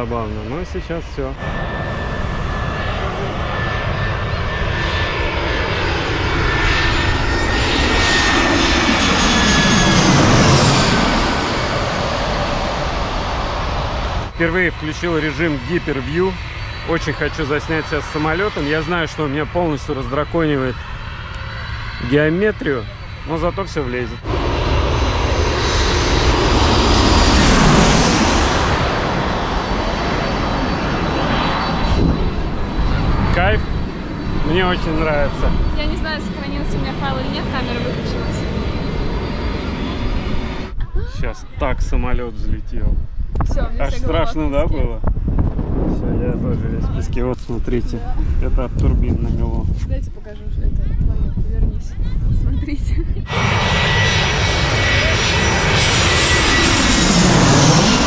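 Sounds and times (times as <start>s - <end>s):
jet airliner flying overhead: 0.0s - 58.0s.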